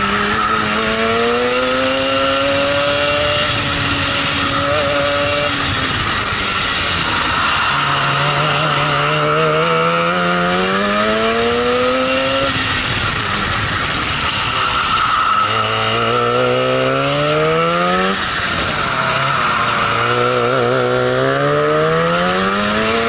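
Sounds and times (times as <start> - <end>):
two-stroke kart engine racing: 0.0 - 23.0.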